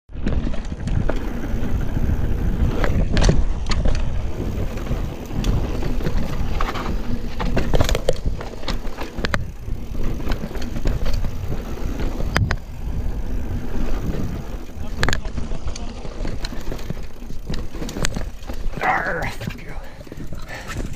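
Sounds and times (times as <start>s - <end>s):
bike rattling over bumps: 0.1s - 20.9s
bike tyres rumbling on rock: 0.1s - 20.9s.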